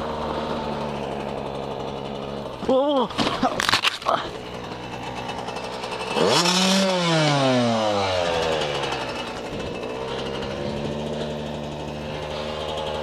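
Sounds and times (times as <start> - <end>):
two-stroke engine revving and idling: 0.0 - 13.0.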